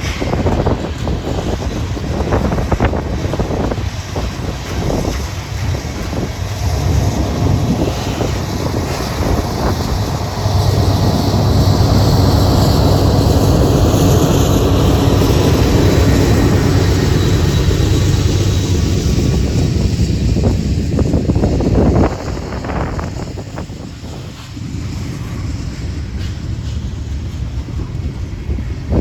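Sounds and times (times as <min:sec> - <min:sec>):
diesel engine drone: 0:00.0 - 0:29.0
freight train rolling: 0:00.0 - 0:29.0
wind buffeting microphone: 0:00.0 - 0:29.0.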